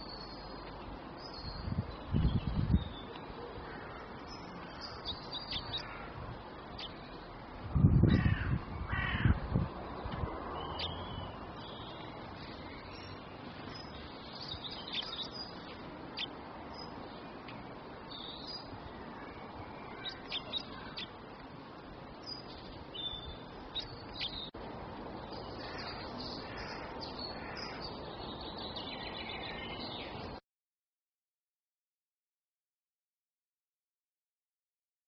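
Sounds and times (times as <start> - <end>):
songbirds chirping: 0.0 - 30.4
steady background noise: 0.0 - 30.4.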